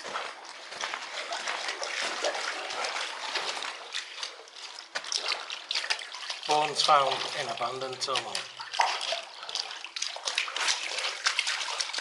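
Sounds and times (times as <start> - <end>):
footsteps wading through water: 0.0 - 12.0.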